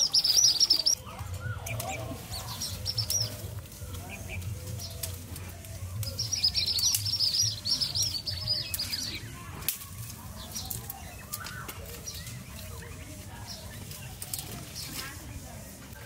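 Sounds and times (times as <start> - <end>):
small bird chirping song: 0.0 - 15.2
sticks and brush snapping: 0.0 - 15.3.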